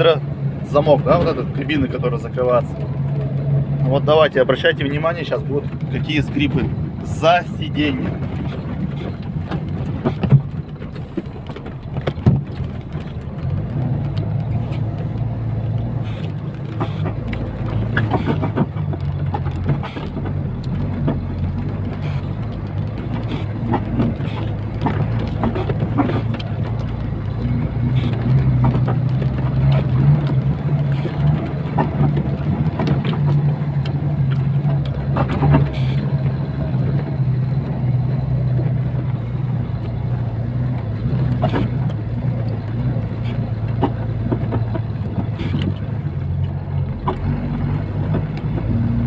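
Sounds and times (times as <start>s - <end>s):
cab lock creaking and knocking: 0.0s - 49.0s
truck diesel engine running: 0.0s - 49.0s.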